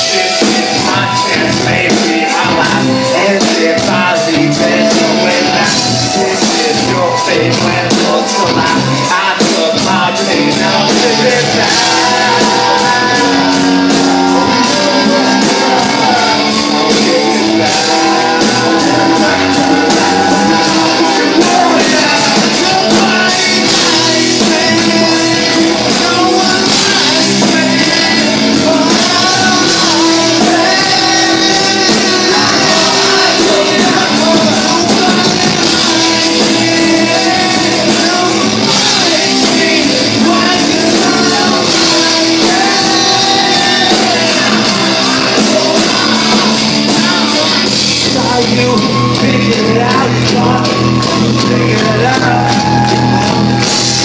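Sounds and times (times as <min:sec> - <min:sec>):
vocalist rapping into microphone: 0:00.0 - 0:53.0
live rap-rock band playing: 0:00.0 - 0:54.0.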